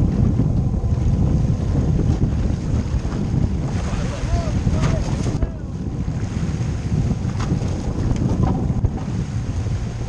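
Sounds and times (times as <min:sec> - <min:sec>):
waves sloshing against boat hull: 0:00.0 - 0:10.0
wind buffeting microphone: 0:00.0 - 0:10.0.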